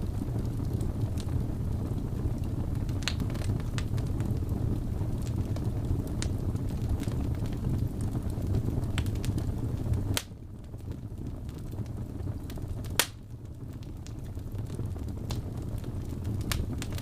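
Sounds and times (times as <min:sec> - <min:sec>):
fire crackling: 0:00.0 - 0:17.0
fire low rumble: 0:00.0 - 0:17.0.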